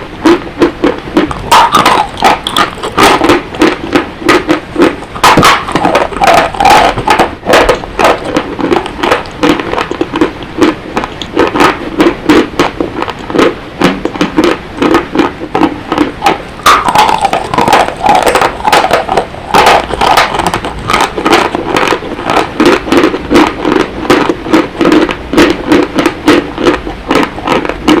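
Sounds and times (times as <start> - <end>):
chalk being chewed: 0.2 - 13.5, 14.1 - 28.0.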